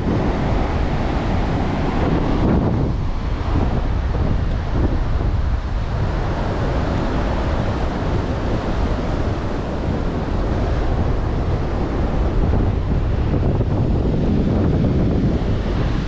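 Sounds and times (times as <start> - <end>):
ocean surf washing up beach: 0.0 - 16.0
wind buffeting microphone: 0.0 - 16.0.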